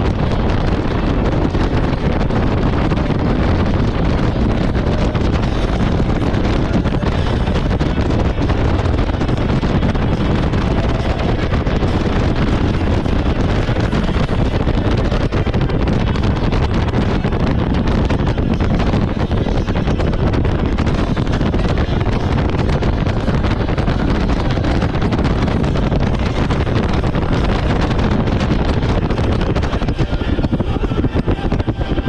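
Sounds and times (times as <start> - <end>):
water noise: 0.0 - 32.0
wind noise on microphone: 0.0 - 32.0.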